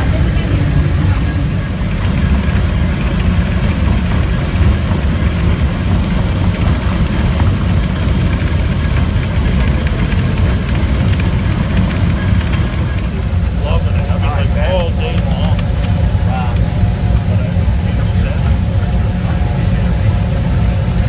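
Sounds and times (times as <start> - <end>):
train locomotive rumbling: 0.0 - 21.0.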